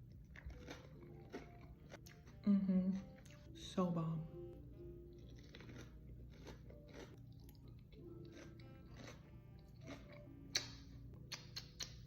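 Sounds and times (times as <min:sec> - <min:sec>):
person chewing crunchy food: 0:00.0 - 0:03.6, 0:05.0 - 0:12.0
soft background music: 0:00.0 - 0:12.0.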